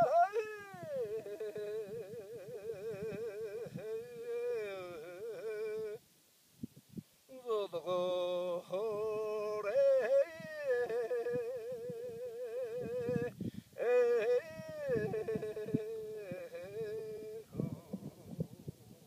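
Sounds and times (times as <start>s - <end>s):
man singing with vibrato: 0.0s - 6.0s, 7.3s - 18.1s.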